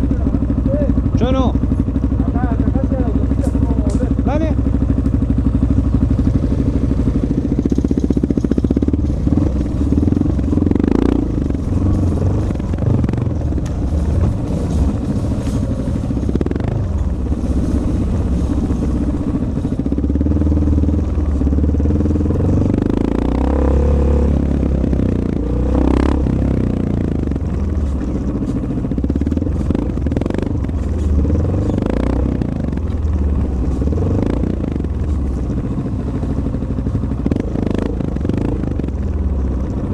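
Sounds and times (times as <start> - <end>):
motorcycle engine revving: 0.0 - 39.9
motorcycle knocks and rattles: 0.0 - 39.9.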